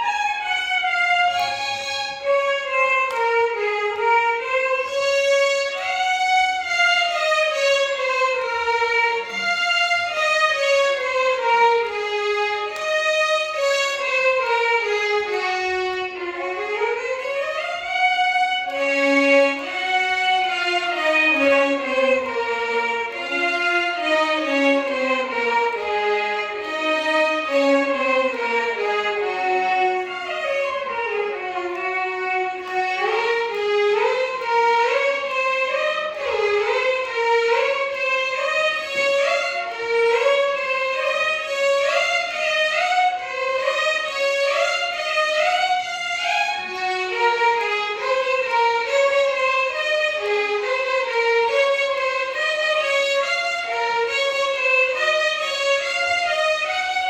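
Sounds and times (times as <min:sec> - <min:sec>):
violin orchestra melody: 0:00.0 - 0:57.0.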